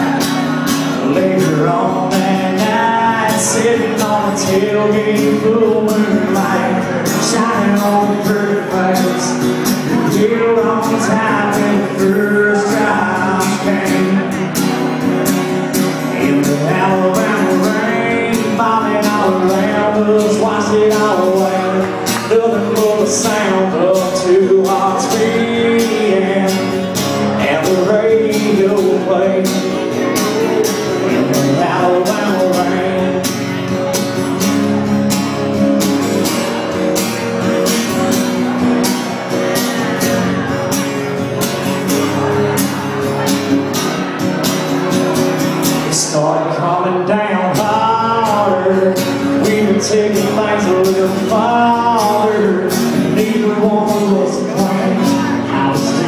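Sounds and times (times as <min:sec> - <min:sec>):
country band playing: 0:00.0 - 0:56.0
man singing: 0:00.0 - 0:56.0.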